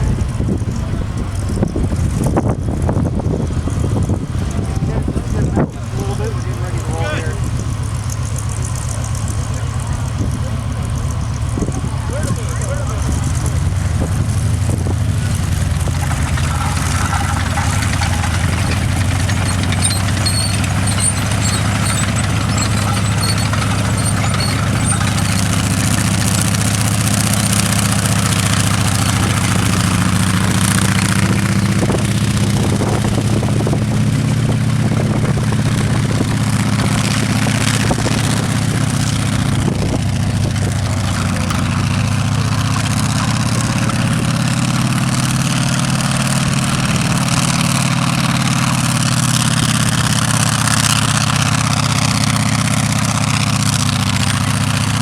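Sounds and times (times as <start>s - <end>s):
tank engine idling: 0.0s - 55.0s.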